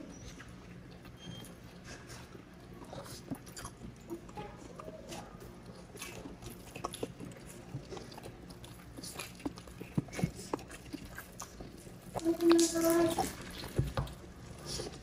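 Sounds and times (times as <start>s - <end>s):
chewing and lip smacking: 0.0s - 15.0s.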